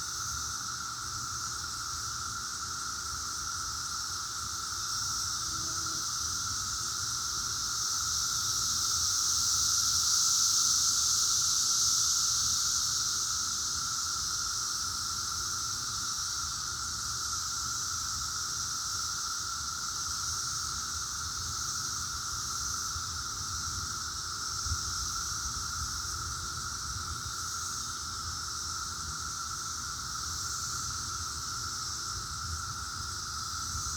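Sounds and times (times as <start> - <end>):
cicadas high-pitched drone: 0.0 - 33.9
lower steady cicada tone: 0.0 - 33.9.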